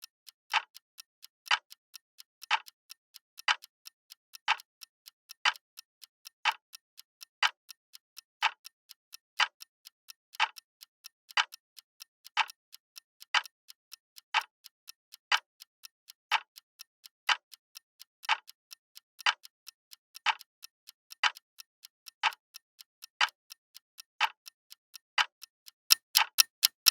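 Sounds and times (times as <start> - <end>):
clock ticking: 0.0 - 26.9.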